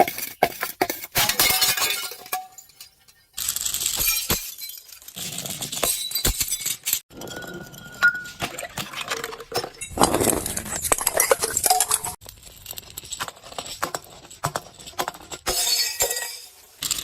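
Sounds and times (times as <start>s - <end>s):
broken glass crunching: 1.2s - 17.0s.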